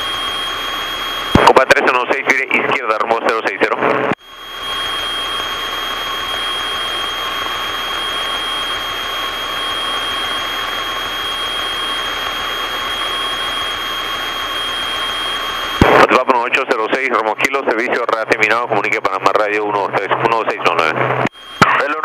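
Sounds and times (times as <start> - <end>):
thin high whine: 0.0 - 17.8, 18.7 - 22.0.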